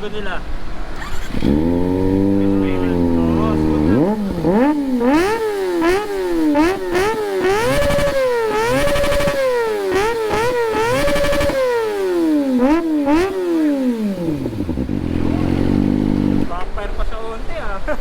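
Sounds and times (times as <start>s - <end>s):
engine idling: 0.0s - 16.8s
motorcycle engine revving: 0.0s - 16.9s
exhaust popping and backfire: 0.0s - 17.0s.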